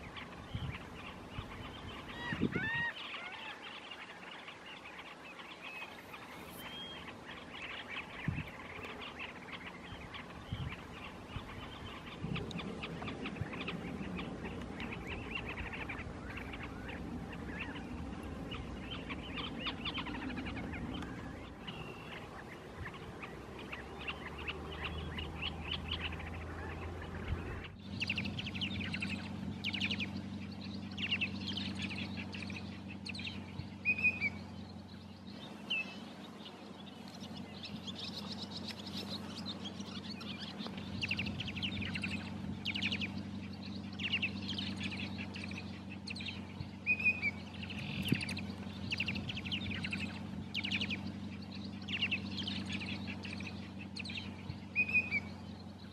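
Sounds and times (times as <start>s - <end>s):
low steady hum: 0.0s - 55.9s
shorebirds peeping and calling: 0.0s - 55.9s.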